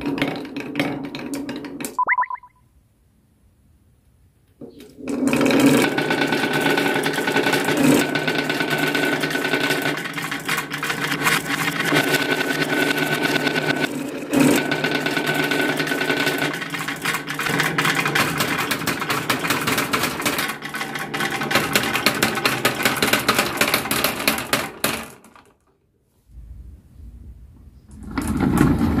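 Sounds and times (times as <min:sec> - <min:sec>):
toy truck rolling rumble: 0:00.0 - 0:01.9, 0:04.8 - 0:25.7, 0:27.9 - 0:29.0.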